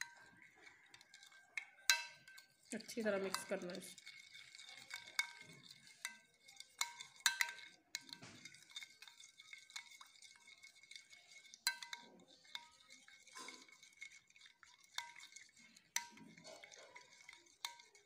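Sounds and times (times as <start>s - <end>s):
spoon clinking on glass bowl: 0.0s - 18.0s
spoon stirring thick liquid: 0.0s - 18.0s.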